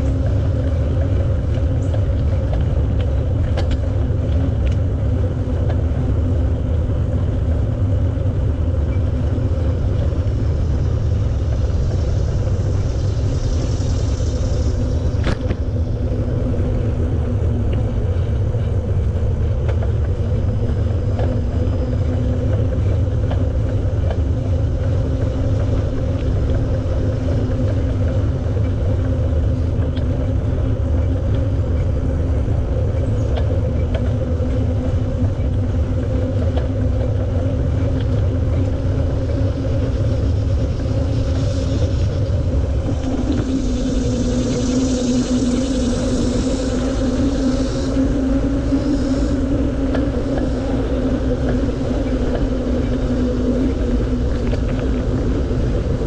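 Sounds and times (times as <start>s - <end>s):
bicycle ride hum: 0.0s - 56.0s
wind rumbling on microphone: 0.0s - 56.0s.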